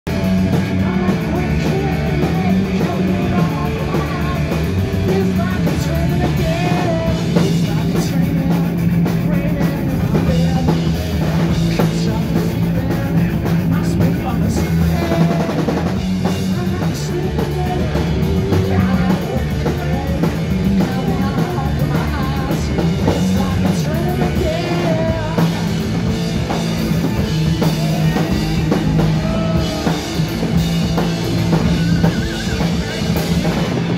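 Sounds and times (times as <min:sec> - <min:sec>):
drum kit: 0:00.1 - 0:33.9
electric guitar: 0:00.1 - 0:33.9
man singing: 0:00.1 - 0:33.9.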